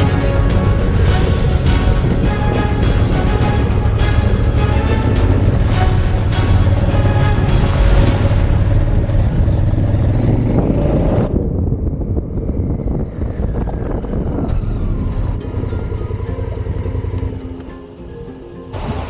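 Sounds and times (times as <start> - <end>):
wind noise on microphone: 0.0 - 17.4
motorcycle running: 0.0 - 18.8.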